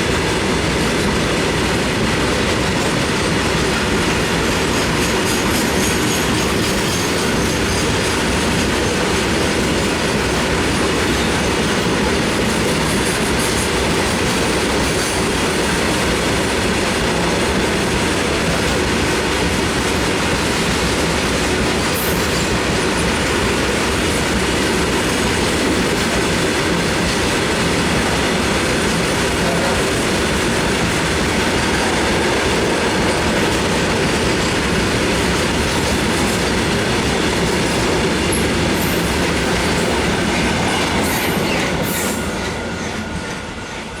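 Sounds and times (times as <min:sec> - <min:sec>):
freight train rumbling: 0:00.0 - 0:44.0
train wheels clattering on track: 0:00.0 - 0:44.0.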